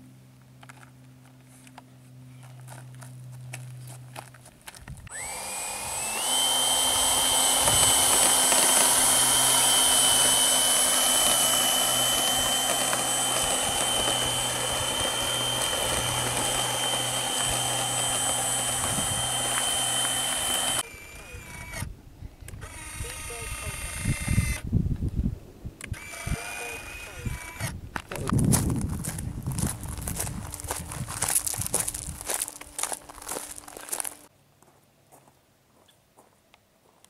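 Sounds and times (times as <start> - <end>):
electric ducted fans whining: 0.0 - 24.8, 25.8 - 34.3.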